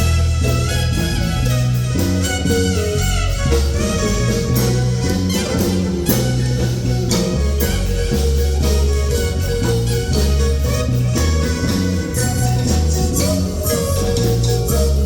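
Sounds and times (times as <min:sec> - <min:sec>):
band music with guitar: 0:00.0 - 0:15.0.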